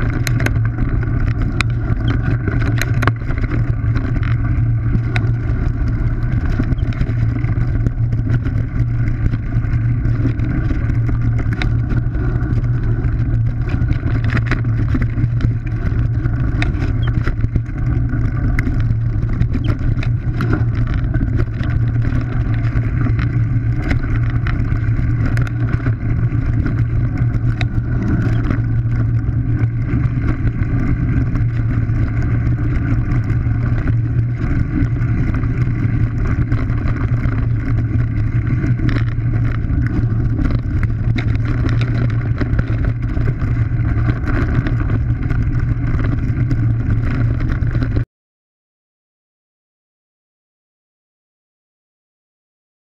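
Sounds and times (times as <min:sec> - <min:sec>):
bike clicking and rattling: 0:00.0 - 0:48.0
wind and tyre rumble: 0:00.0 - 0:48.0.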